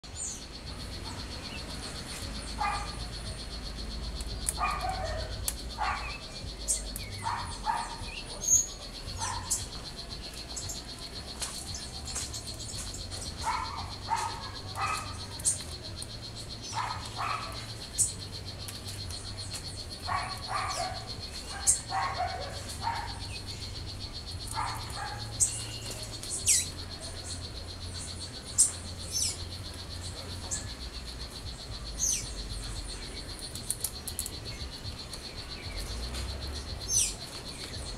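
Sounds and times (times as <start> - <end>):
high insect trill: 0.1 - 37.9.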